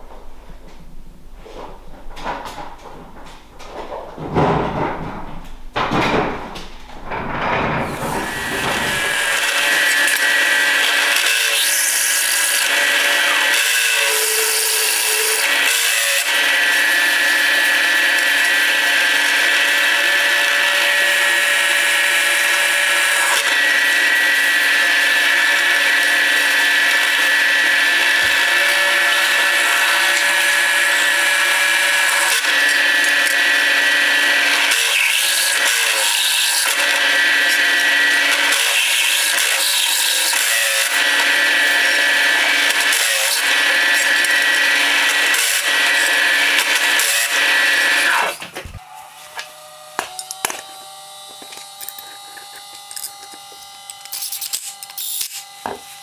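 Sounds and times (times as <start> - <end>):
drill press cutting steel: 7.3 - 56.0.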